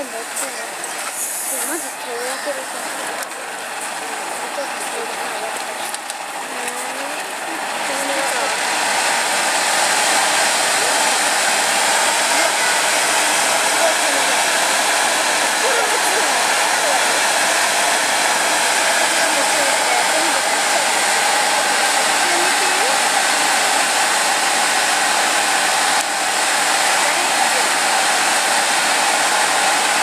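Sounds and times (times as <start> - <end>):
firework fountain hissing: 0.0 - 30.0.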